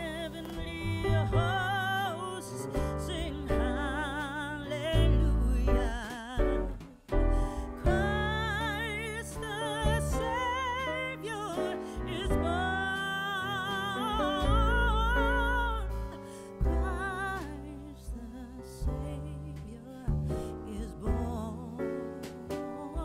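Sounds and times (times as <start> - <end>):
instrumental music with steady bass: 0.0 - 23.0.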